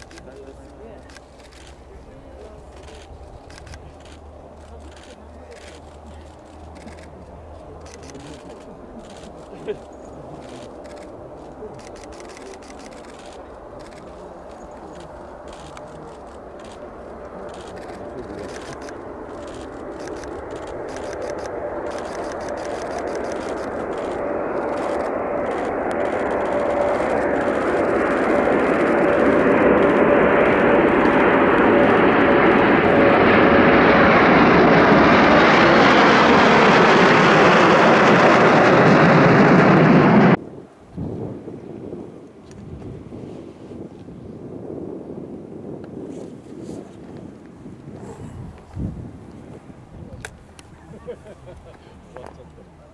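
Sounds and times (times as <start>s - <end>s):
jet aircraft engine noise: 0.0s - 52.9s
jet engine whine: 0.0s - 52.9s.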